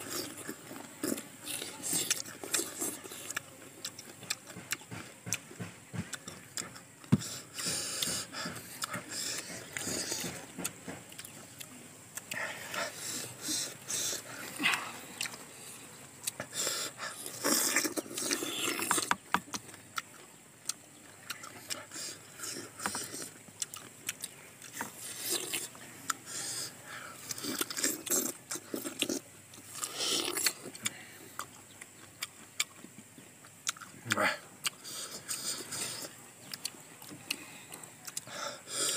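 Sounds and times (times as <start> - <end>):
people chewing crisp fruit: 0.0 - 38.9.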